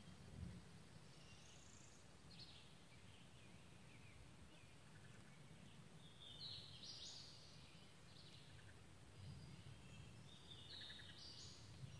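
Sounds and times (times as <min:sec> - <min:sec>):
faint birdsong: 0:00.0 - 0:11.9.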